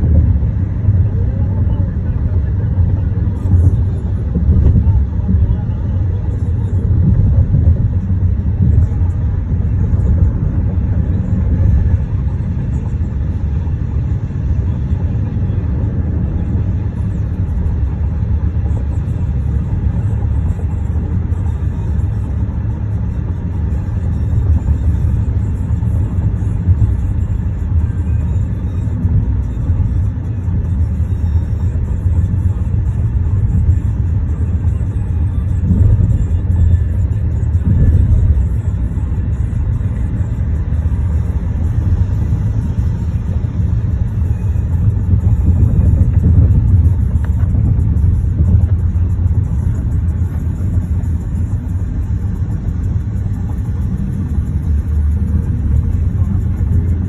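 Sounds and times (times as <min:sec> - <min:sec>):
car cabin road noise: 0:00.0 - 0:57.0.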